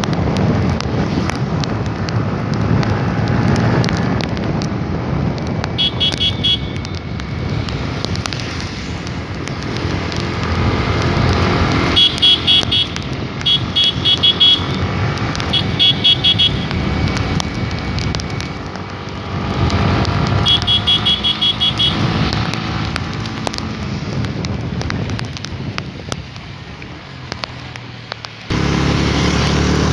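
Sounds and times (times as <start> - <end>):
motorcycle engine and road noise: 0.0 - 29.9.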